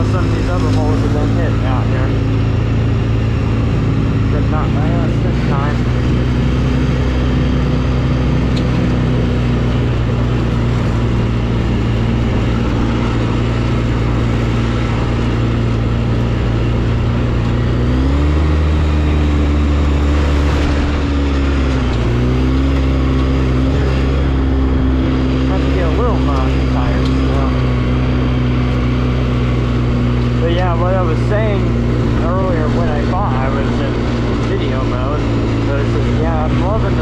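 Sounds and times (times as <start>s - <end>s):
off-road vehicle engine running: 0.0s - 37.0s.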